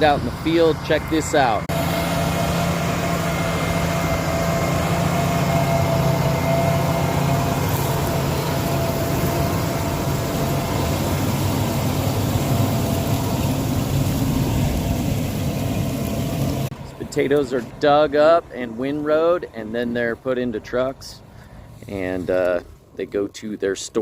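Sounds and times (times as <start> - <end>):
thin steady whine: 0.0 - 22.6
heavy engine drone: 0.0 - 22.8.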